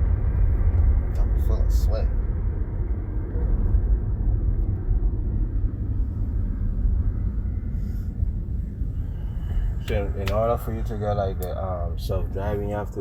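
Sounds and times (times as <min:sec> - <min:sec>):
road noise inside car: 0:00.0 - 0:13.0
wind noise: 0:00.0 - 0:13.0.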